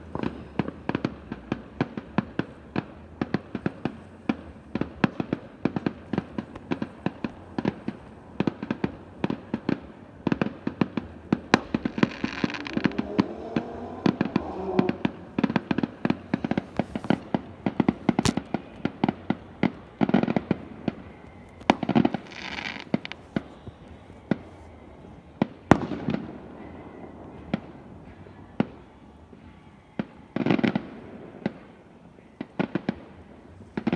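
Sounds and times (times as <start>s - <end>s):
fireworks bangs and pops: 0.0s - 24.8s, 25.4s - 28.9s, 32.4s - 33.9s
fireworks crackling bursts: 0.0s - 33.9s.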